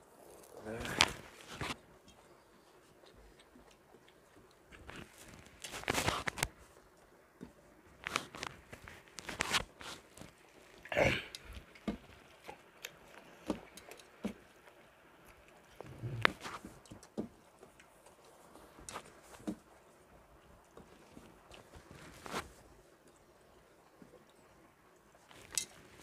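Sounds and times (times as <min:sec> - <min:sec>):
people chewing and smacking: 0:00.0 - 0:26.0.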